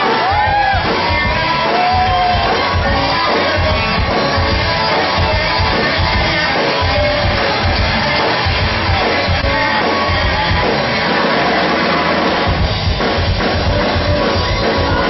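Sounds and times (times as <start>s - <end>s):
audience shouting: 0.0s - 15.0s
live band music with singing: 0.0s - 15.0s.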